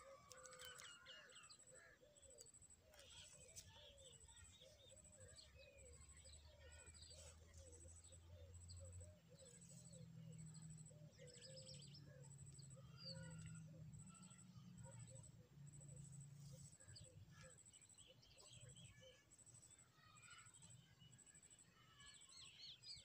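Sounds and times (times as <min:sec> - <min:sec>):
faint bird chirps and calls: 0:00.0 - 0:23.0.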